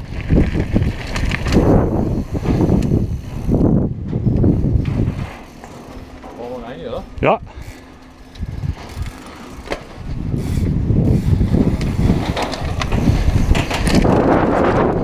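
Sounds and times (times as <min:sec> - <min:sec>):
bike clicks and rattles: 0:00.0 - 0:15.0
tyres rumbling over rough trail: 0:00.0 - 0:15.0
wind buffeting microphone: 0:00.0 - 0:15.0.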